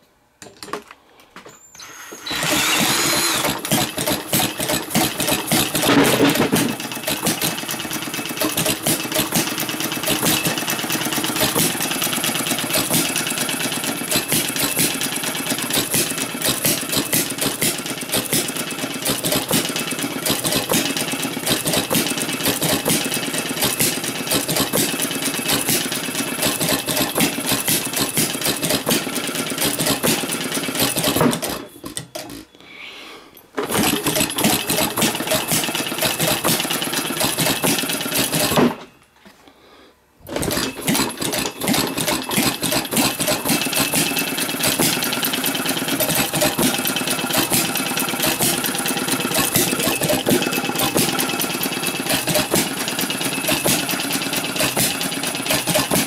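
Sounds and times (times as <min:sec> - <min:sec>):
small gas engine running: 0:01.8 - 0:32.5, 0:33.6 - 0:38.9, 0:40.2 - 0:56.0.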